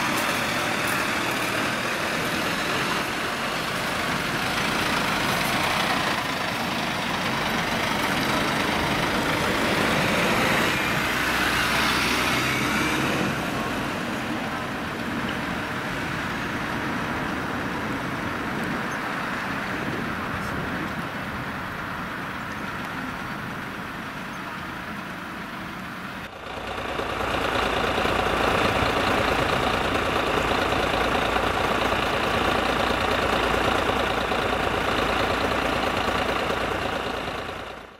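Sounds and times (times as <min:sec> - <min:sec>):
ambulance engines running: 0:00.0 - 0:37.9
vehicle engine idling: 0:00.0 - 0:37.9.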